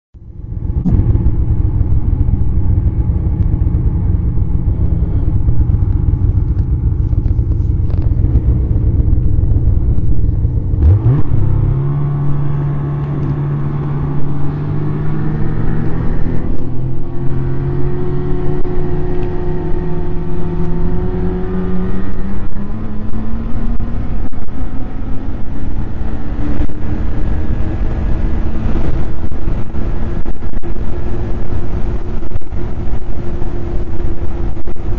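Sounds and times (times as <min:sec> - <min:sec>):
snowmobile engine rumbling: 0:00.2 - 0:34.9.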